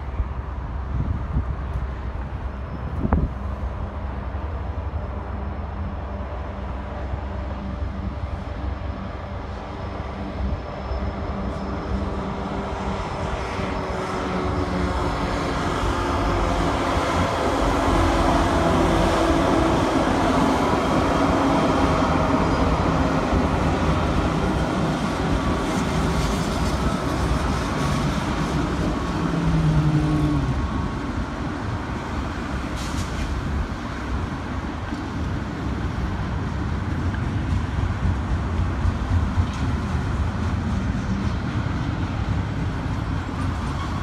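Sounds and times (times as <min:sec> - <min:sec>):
freight cars rumbling: 0:00.0 - 0:44.0
locomotive engine drone: 0:00.0 - 0:44.0.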